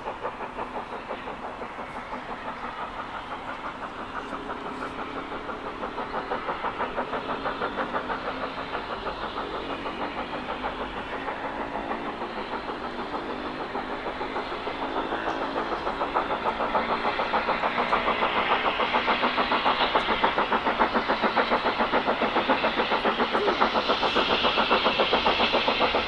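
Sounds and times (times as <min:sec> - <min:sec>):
steam locomotive chuffing: 0:00.0 - 0:26.0.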